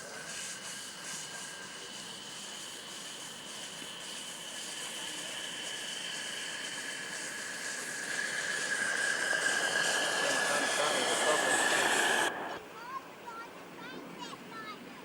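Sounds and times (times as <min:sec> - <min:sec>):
high steady whine: 0:00.0 - 0:12.6
model steam locomotive hissing: 0:00.0 - 0:12.6.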